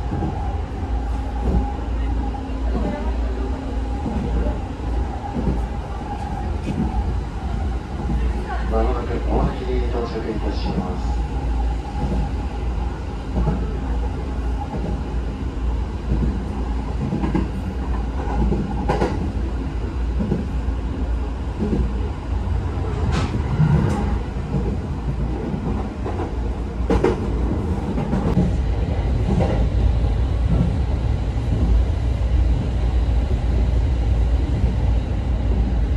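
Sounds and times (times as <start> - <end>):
train low rumble: 0.0 - 35.9.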